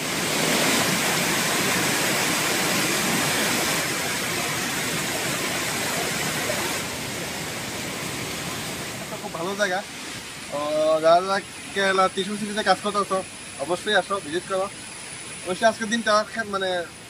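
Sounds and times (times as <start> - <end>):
water rushing over rock: 0.0 - 17.0.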